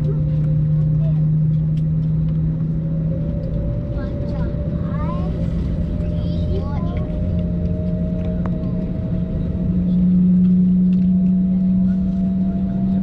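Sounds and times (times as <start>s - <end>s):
airplane cabin hum and rumble: 0.0s - 13.0s.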